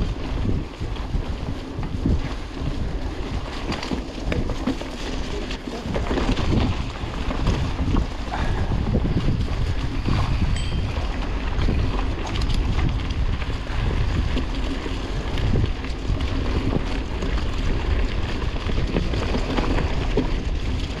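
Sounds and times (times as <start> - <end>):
mountain bike rumbling and rattling: 0.0 - 21.0
wind over microphone: 0.0 - 21.0.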